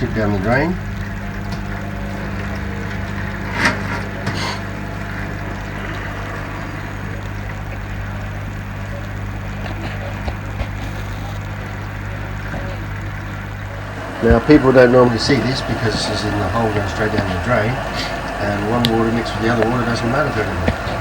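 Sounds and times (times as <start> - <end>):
washing machine humming: 0.0 - 21.0.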